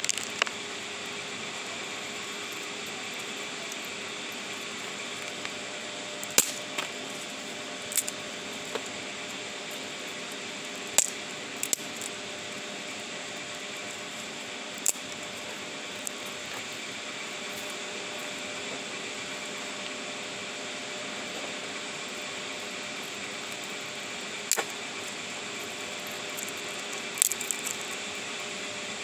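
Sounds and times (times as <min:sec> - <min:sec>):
wood fire crackling and popping: 0:00.0 - 0:20.0, 0:20.8 - 0:28.5.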